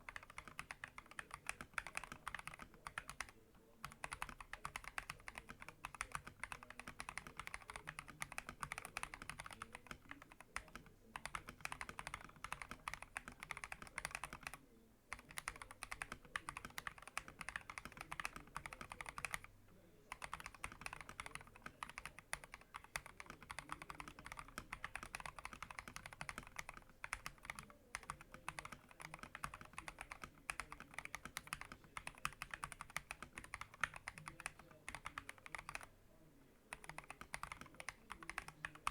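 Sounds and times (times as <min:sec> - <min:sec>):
fast typing on mechanical keyboard: 0:00.0 - 0:19.5, 0:20.1 - 0:35.9, 0:36.7 - 0:38.9.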